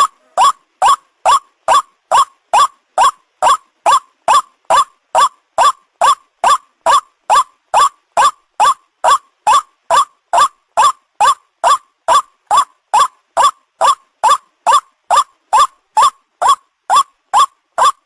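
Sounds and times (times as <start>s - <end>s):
waterhen call repeated rising note: 0.0s - 18.0s.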